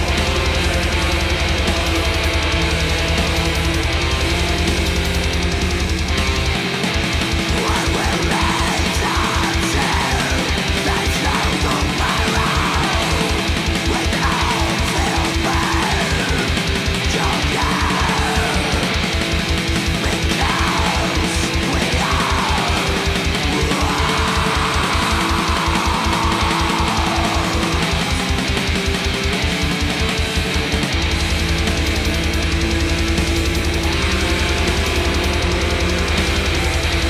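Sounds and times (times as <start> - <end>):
distorted electric guitars: 0.0 - 37.0.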